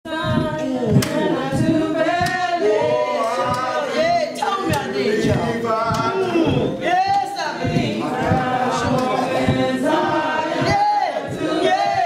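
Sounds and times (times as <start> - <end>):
congregation singing a hymn: 0.1 - 12.0
hand claps on the beat: 0.9 - 6.2, 7.0 - 12.0.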